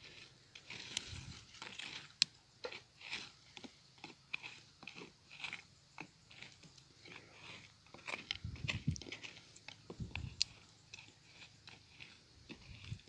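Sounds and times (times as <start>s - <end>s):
knife scraping into dry soil: 0.0s - 13.0s.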